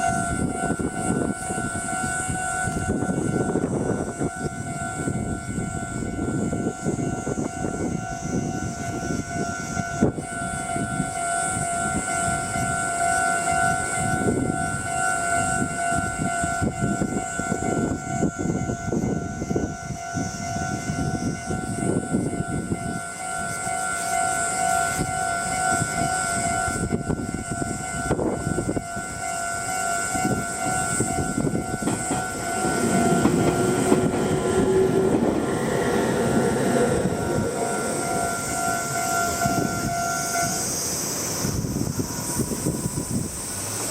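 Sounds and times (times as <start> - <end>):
level-crossing warning bell: 0.0 - 43.9
train rumbling and clattering: 0.0 - 43.9.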